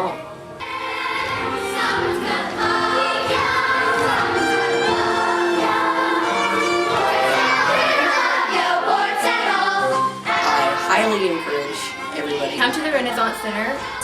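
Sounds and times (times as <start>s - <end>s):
chorus of young voices singing: 0.0s - 14.0s.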